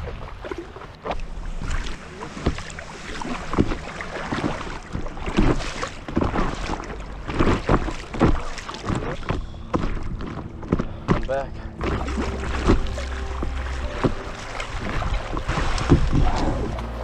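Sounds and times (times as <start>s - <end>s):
water splashing against boat: 0.0s - 17.0s
wind rumbling on microphone: 0.0s - 17.0s.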